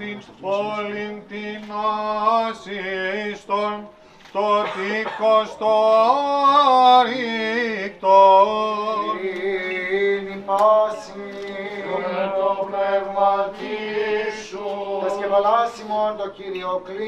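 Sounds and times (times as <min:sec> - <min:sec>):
man chanting ornamented melody: 0:00.0 - 0:17.0.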